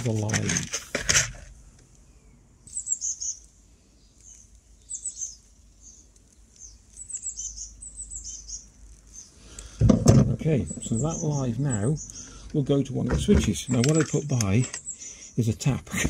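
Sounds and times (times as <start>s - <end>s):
small birds twittering: 1.9s - 15.8s.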